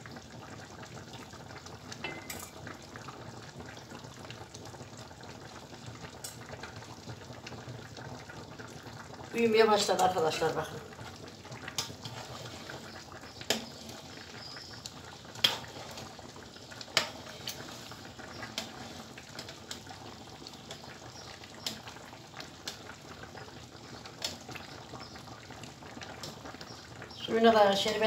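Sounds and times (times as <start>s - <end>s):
syrup bubbling in a metal tray: 0.0s - 28.0s.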